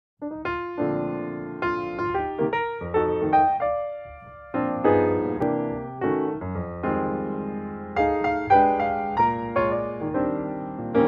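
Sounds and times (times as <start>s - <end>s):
piano notes: 0.2s - 11.0s.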